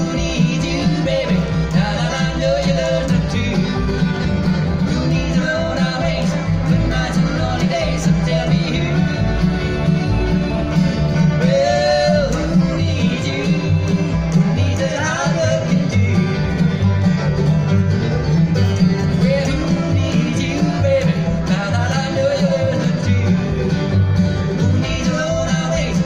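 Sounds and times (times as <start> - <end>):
acoustic guitar: 0.0 - 26.0
banjo: 0.0 - 26.0
fiddle: 0.0 - 26.0
mandolin: 0.0 - 26.0
upright bass: 0.0 - 26.0.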